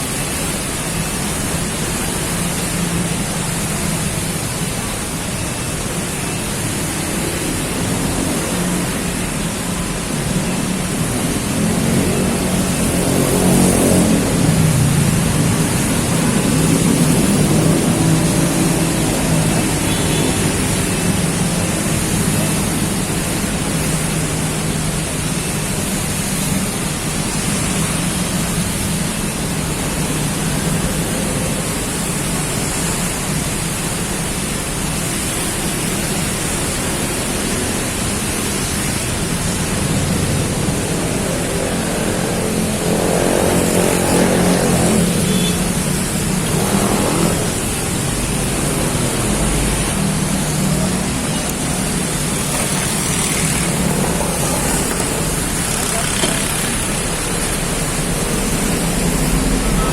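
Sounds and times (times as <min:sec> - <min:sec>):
heavy rain: 0:00.0 - 0:59.9
traffic engine hum: 0:00.0 - 0:59.9.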